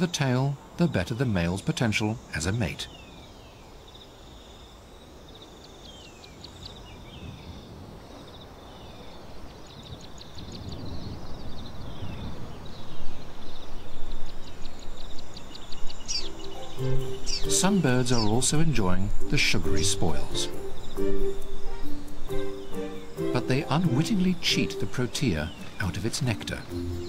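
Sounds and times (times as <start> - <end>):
bird singing: 0.0 - 27.0.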